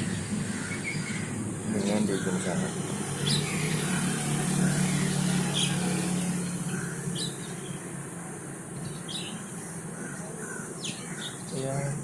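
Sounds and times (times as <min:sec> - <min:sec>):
traffic passing: 0:00.0 - 0:12.0.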